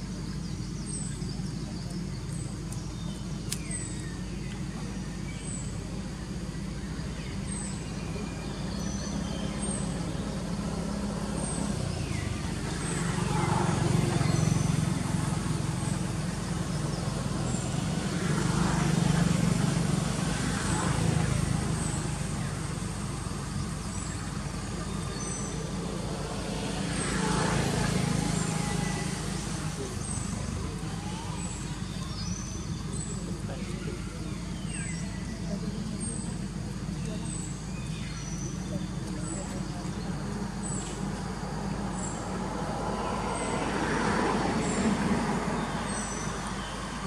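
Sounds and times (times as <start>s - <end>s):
vehicles passing on road: 0.0s - 47.0s.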